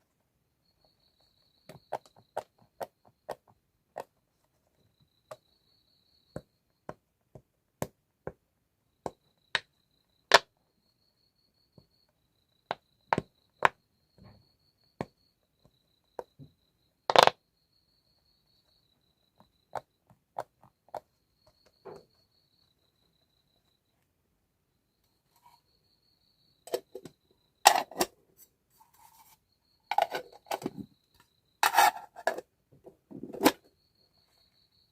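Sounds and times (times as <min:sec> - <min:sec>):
faint steady high tone: 0:00.0 - 0:07.5, 0:08.6 - 0:34.9.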